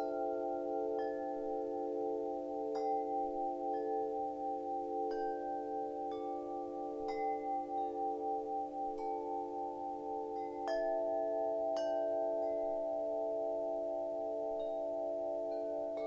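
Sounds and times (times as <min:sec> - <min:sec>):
wind chimes ringing: 0:00.0 - 0:16.0.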